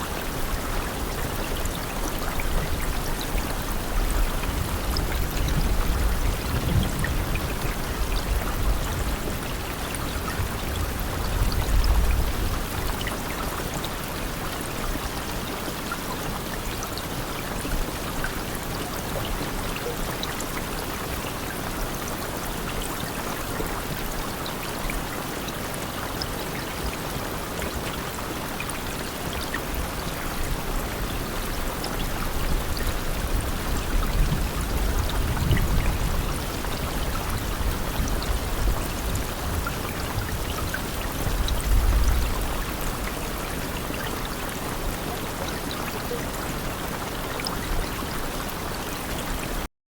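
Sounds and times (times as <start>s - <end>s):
steady rain: 0.0s - 49.7s.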